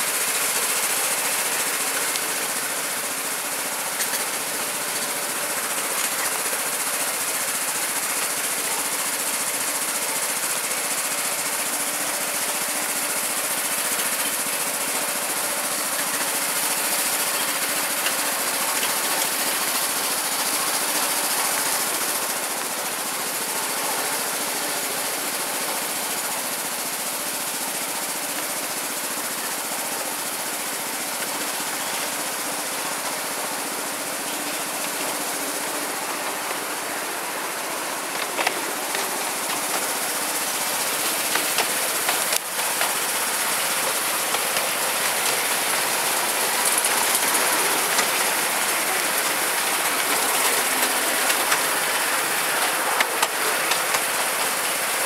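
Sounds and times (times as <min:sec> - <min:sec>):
miniature train running: 0:00.0 - 0:55.0.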